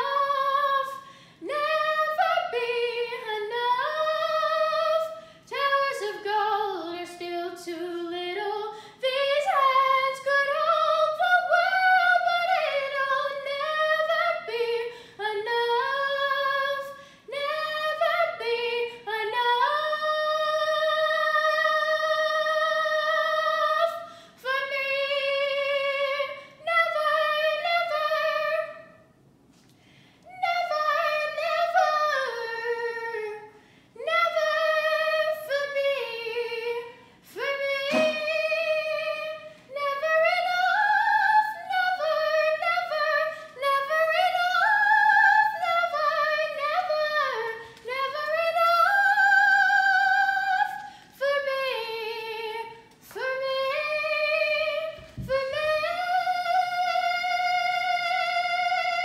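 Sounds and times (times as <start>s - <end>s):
girl singing unaccompanied: 0.0s - 29.0s, 30.3s - 59.0s.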